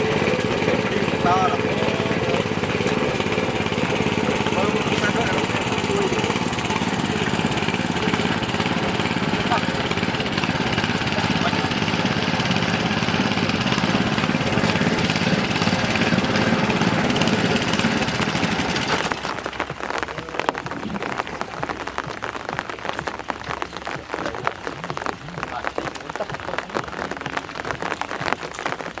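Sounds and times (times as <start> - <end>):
engine-driven water pump running: 0.0 - 29.0
rain pattering: 0.0 - 29.0.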